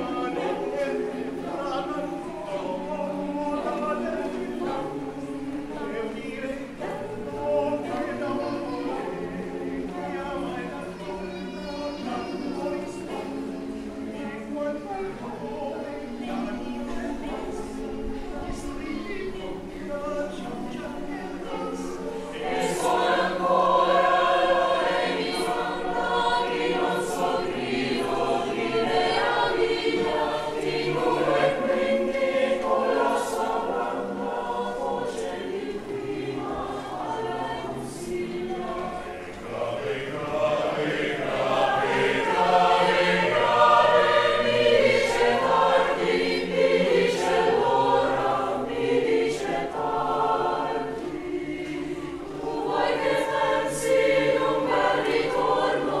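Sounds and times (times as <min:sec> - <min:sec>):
choir singing unaccompanied: 0:00.0 - 0:56.0.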